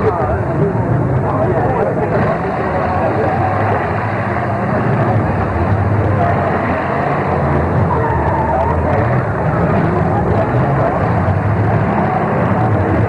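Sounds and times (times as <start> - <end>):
car engines running hard: 0.0 - 13.0.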